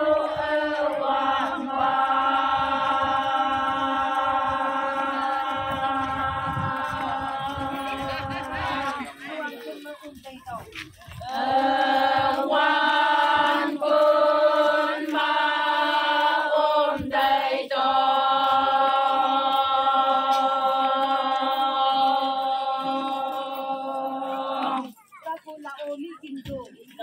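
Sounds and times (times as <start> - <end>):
women chanting in unison: 0.0 - 9.8, 11.2 - 25.0.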